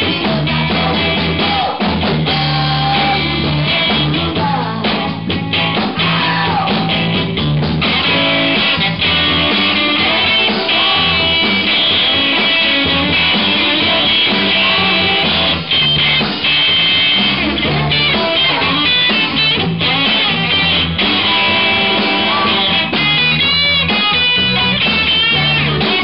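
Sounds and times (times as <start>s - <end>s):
electric guitars: 0.0s - 26.0s
live rock band: 0.0s - 26.0s.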